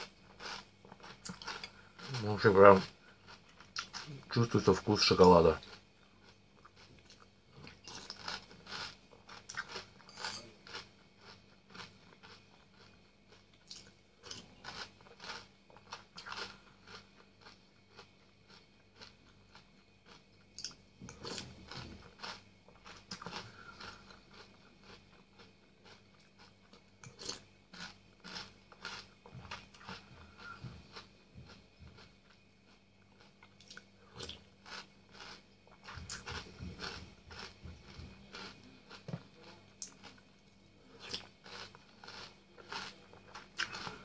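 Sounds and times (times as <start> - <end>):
chewing and crunching cereal: 0.0 - 44.0.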